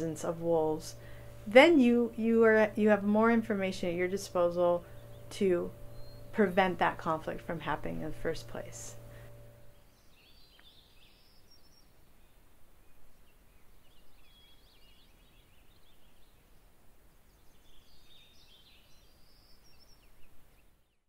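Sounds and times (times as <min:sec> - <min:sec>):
birds chirping and trilling: 0:00.0 - 0:21.0
low background hiss: 0:00.0 - 0:21.0.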